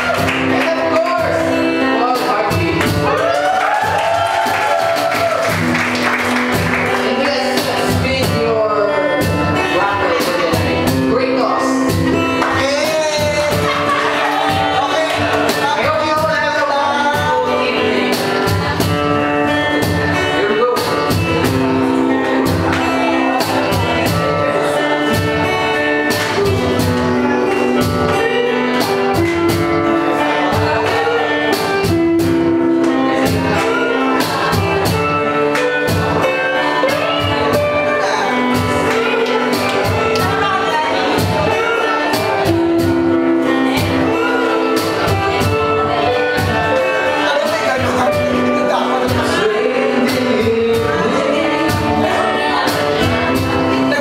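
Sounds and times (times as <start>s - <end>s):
live rock band playing: 0.0s - 54.0s
person singing: 6.8s - 54.0s.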